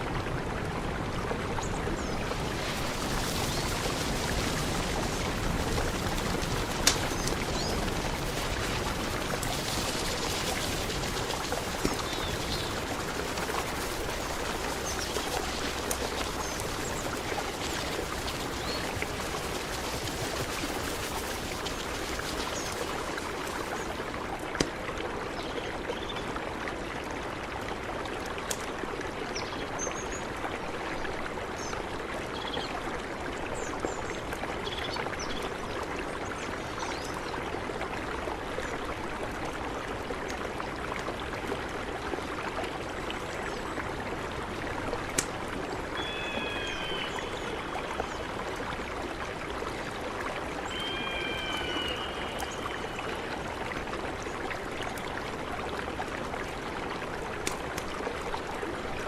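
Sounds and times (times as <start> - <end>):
river water rushing: 0.0 - 29.2, 36.4 - 59.0.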